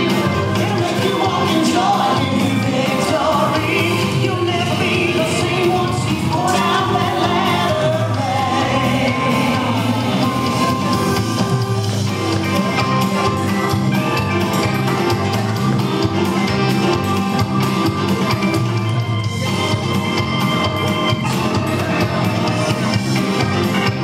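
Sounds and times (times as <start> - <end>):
country music over loudspeakers: 0.0 - 24.0.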